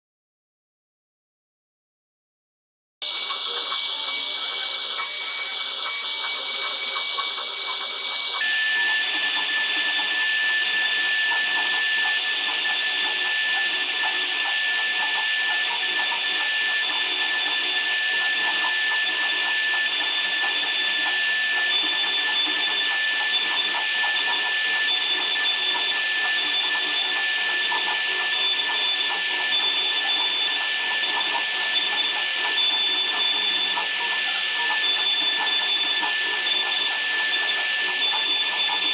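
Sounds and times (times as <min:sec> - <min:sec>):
woodworking machine whining: 0:03.0 - 0:38.9.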